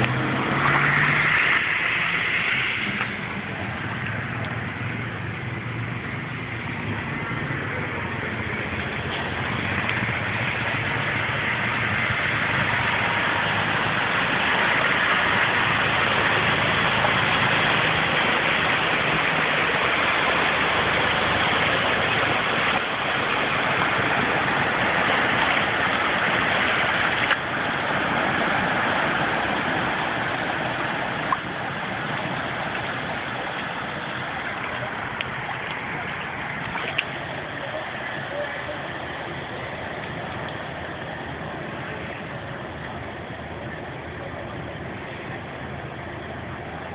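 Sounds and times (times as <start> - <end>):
rushing floodwater: 0.0 - 46.9.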